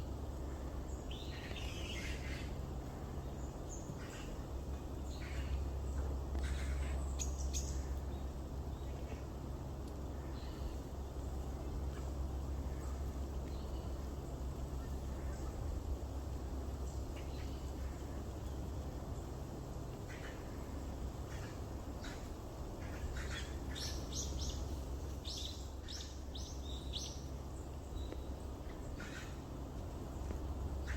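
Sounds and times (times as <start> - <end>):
steady low rumble: 0.0 - 30.9.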